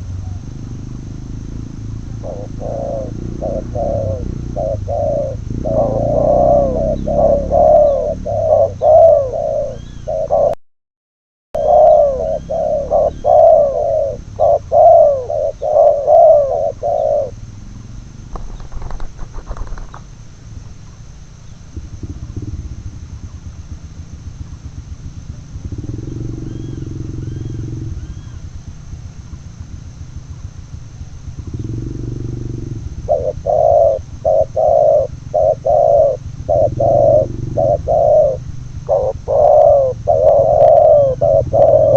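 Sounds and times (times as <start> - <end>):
doves cooing: 0.0 - 10.6, 11.6 - 41.9.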